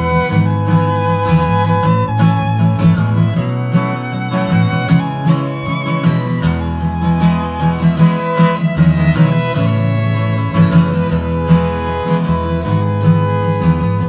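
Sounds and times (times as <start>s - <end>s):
strummed acoustic guitar: 0.0s - 14.0s
violin holding notes: 0.0s - 14.0s.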